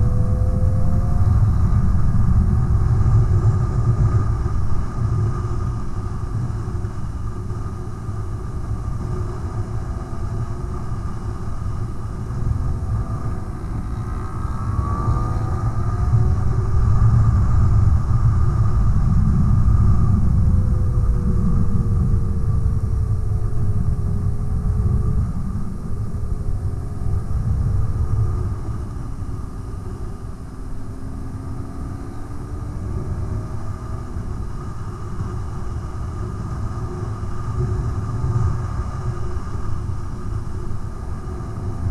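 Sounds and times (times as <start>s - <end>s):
wind on microphone: 0.0s - 41.9s.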